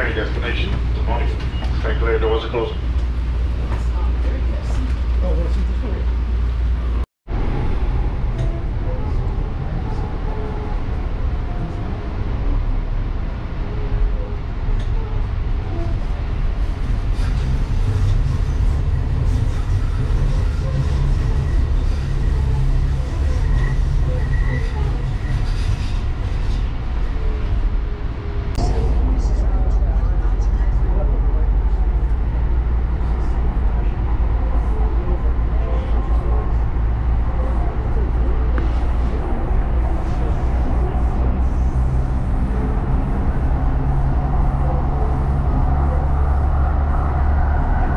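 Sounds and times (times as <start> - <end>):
light rail car rumbling: 0.0 - 47.9.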